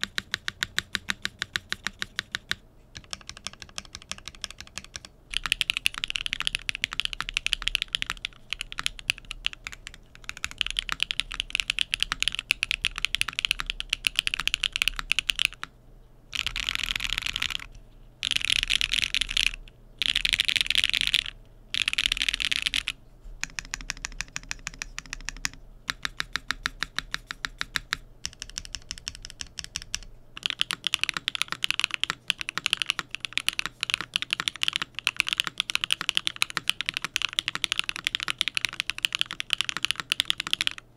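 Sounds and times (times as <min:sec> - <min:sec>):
mechanical keyboard typing: 0:00.0 - 0:15.7, 0:16.3 - 0:40.8.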